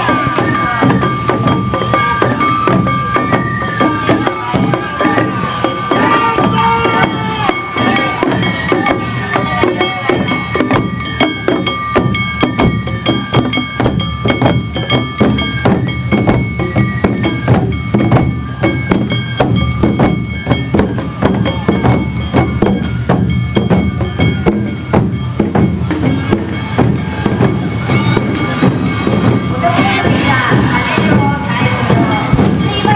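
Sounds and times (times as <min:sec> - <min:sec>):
bamboo flute: 0:00.0 - 0:32.9
drums beating: 0:00.0 - 0:32.9
hand bell striking: 0:00.0 - 0:32.9.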